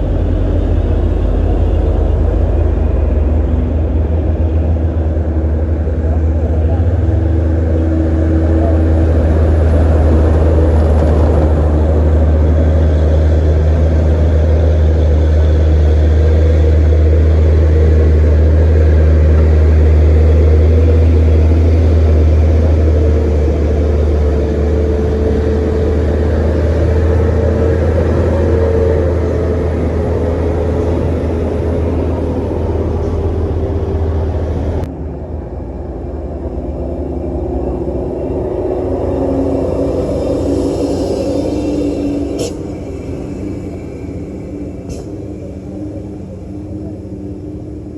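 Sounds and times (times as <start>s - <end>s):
truck diesel engine under load: 0.0s - 47.9s.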